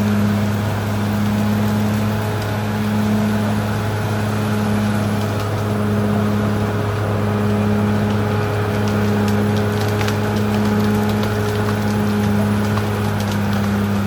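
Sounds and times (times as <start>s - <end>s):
bulldozer diesel engine droning: 0.0s - 14.0s.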